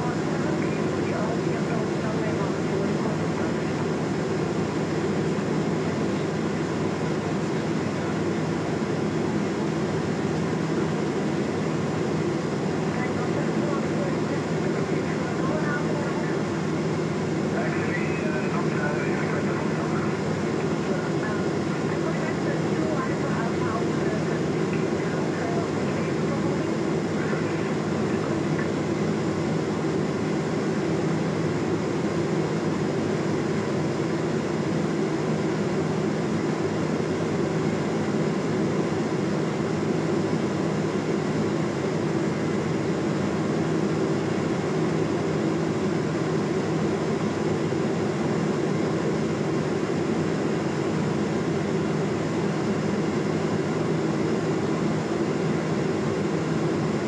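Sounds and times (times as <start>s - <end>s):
airplane engine and propeller drone: 0.0s - 57.0s.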